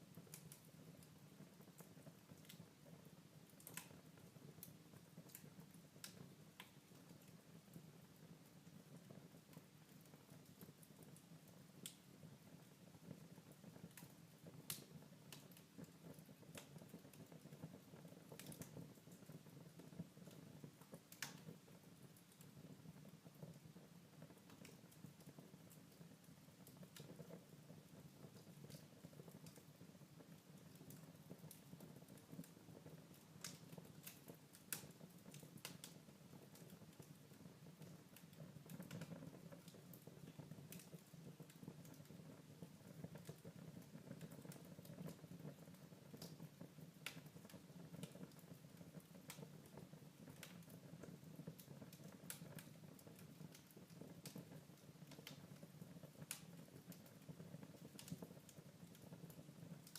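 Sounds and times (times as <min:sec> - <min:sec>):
low steady fire rumble: 0:00.0 - 0:59.9
wood fire crackling: 0:00.0 - 0:59.9.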